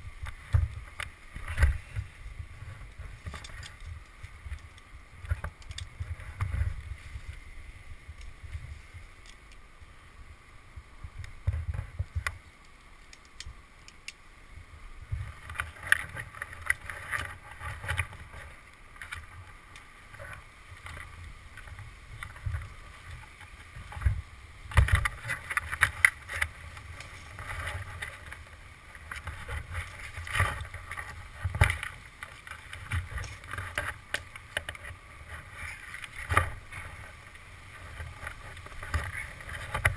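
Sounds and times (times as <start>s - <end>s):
rope and gear rustling: 0.2s - 9.7s, 15.1s - 39.9s.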